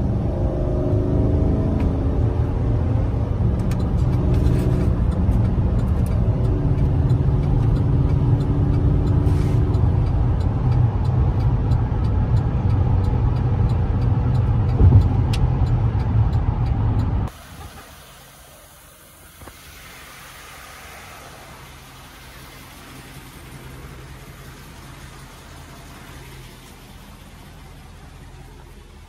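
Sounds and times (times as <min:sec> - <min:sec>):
road and wind noise: 0:00.0 - 0:29.0
truck engine drone: 0:00.0 - 0:29.0.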